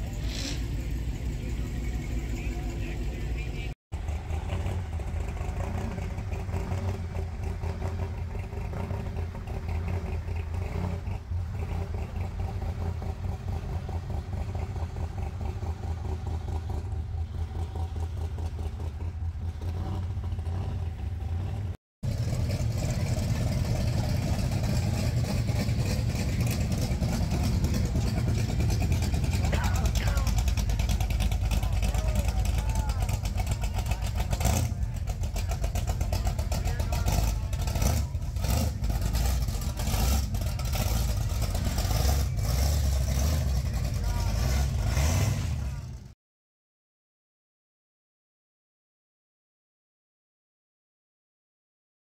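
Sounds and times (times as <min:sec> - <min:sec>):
car engine idling: 0:00.0 - 0:46.1.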